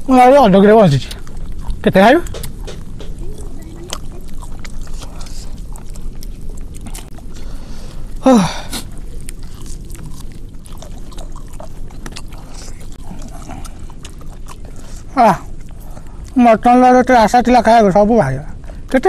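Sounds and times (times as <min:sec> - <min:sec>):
chewing and eating by hand: 0:00.0 - 0:19.0
low steady rumble: 0:00.0 - 0:19.0.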